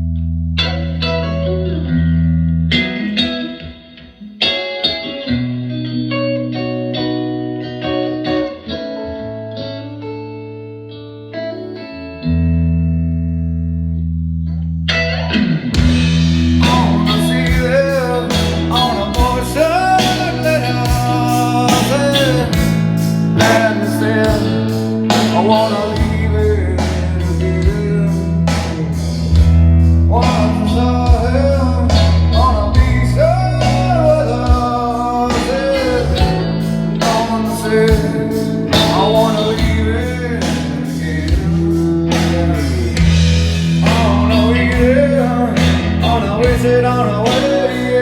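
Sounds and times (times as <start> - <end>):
blues-rock song with singing: 0.0 - 48.0.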